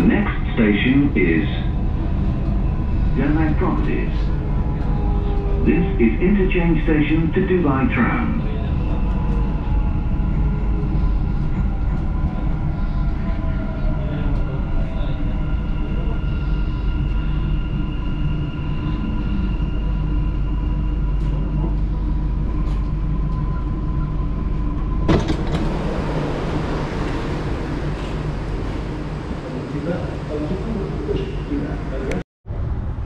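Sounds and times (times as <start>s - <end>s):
train rumbling and braking: 0.0s - 33.0s.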